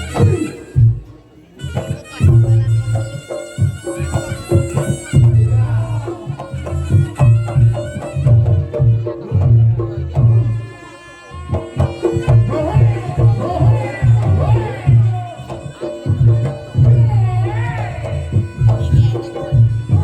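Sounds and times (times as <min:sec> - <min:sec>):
hand drums beating: 0:00.0 - 0:10.9, 0:11.5 - 0:20.0
shrill wind instrument melody: 0:00.0 - 0:20.0.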